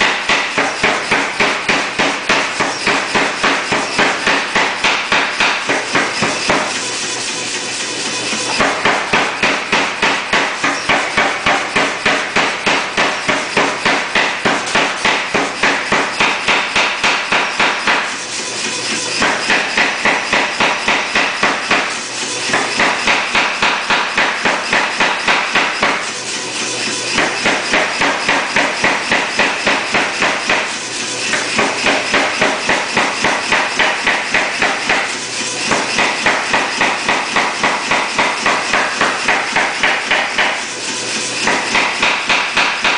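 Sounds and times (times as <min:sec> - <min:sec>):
power hammer pounding hot steel: 0:00.0 - 0:42.9.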